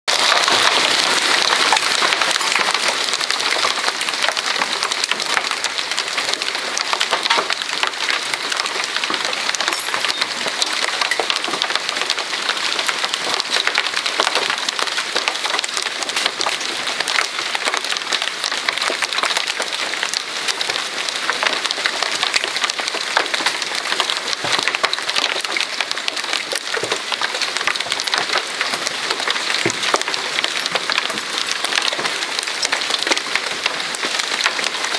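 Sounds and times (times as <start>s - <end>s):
hailstones clattering: 0.1s - 34.9s.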